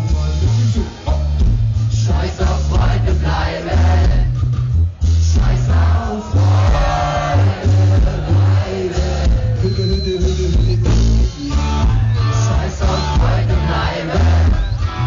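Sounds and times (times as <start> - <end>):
man singing: 0.0 - 4.3, 5.2 - 15.0
heavy pulsing bass beat: 0.0 - 15.0
live rock band playing: 0.0 - 15.0.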